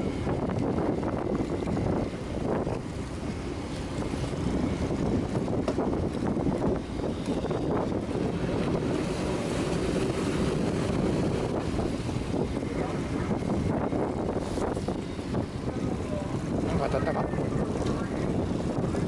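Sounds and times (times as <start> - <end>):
waves washing around hull: 0.0 - 19.0
wind buffeting microphone: 0.0 - 19.0.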